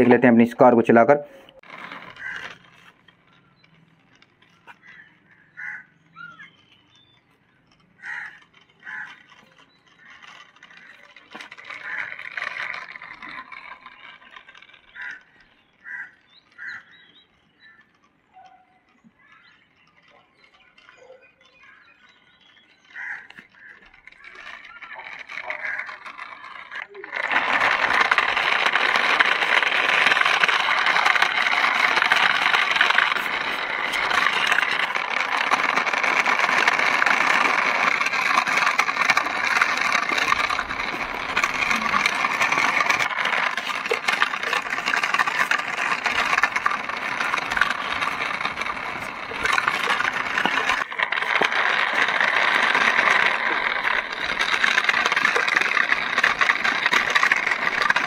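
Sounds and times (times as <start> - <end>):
wheels grinding over concrete: 0.0 - 58.0
toy car motor whirring: 1.4 - 58.0.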